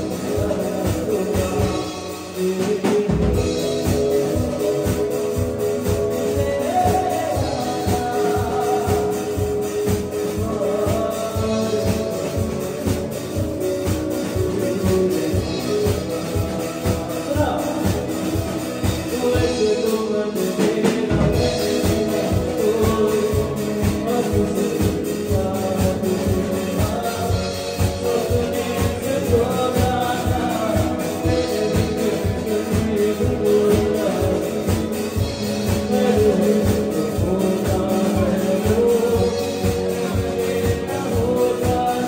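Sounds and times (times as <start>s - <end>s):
drum kit: 0.0s - 42.0s
electric guitar: 0.0s - 42.0s
keyboard: 0.0s - 42.0s
person singing: 0.0s - 42.0s.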